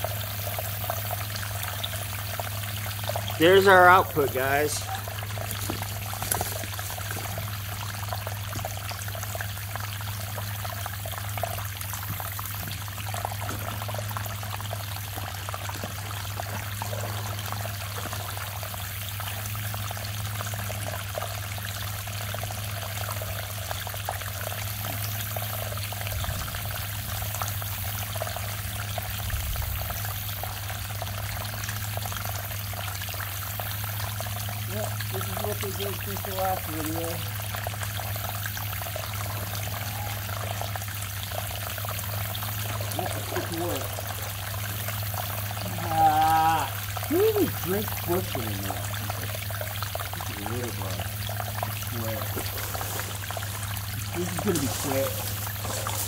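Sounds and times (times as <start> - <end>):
water pouring from pipe and splashing: 0.0 - 56.0.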